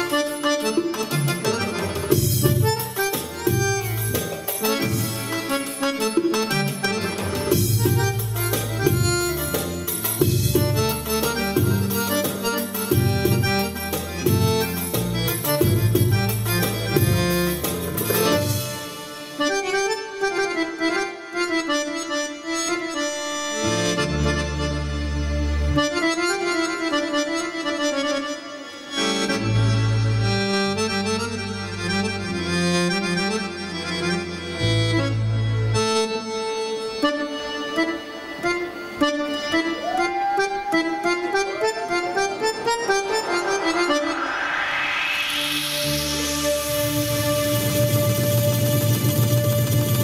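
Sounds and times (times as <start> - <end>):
belly-dance keyboard music: 0.0 - 50.0.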